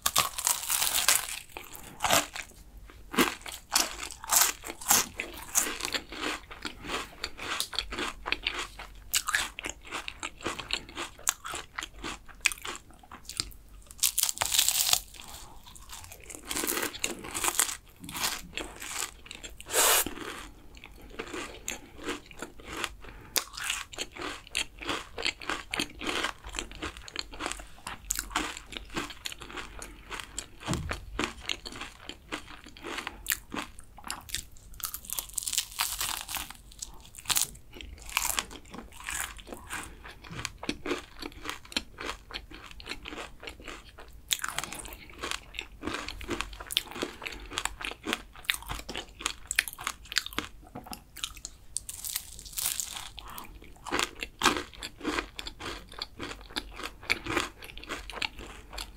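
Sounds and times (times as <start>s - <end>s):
crunching and chewing pastry: 0.0s - 58.9s.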